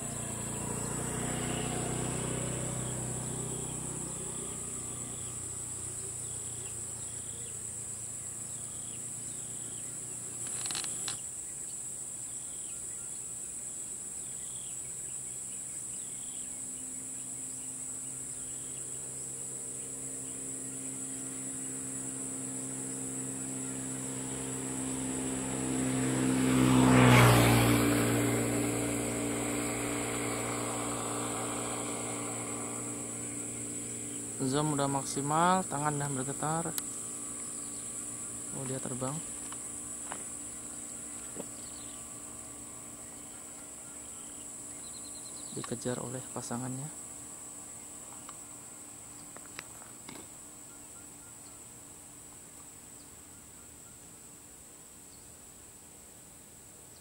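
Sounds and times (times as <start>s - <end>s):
vehicle engine passing: 0.0s - 11.2s, 16.0s - 50.6s
insects droning: 0.0s - 57.0s.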